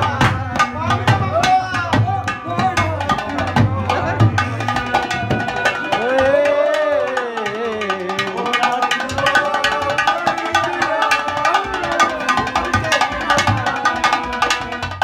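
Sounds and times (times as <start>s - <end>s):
fast hand drumming: 0.0s - 15.0s
harmonium: 0.0s - 15.0s.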